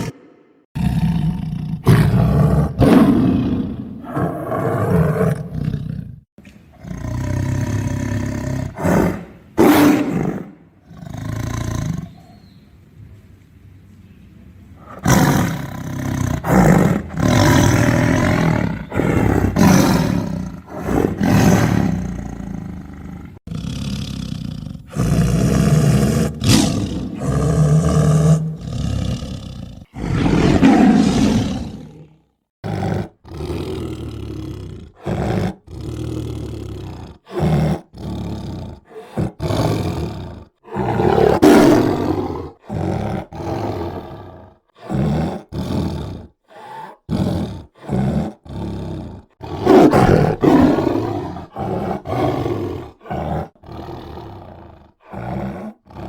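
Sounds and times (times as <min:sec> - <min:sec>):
tiger roaring and growling: 0:00.0 - 0:12.4, 0:14.8 - 0:56.0.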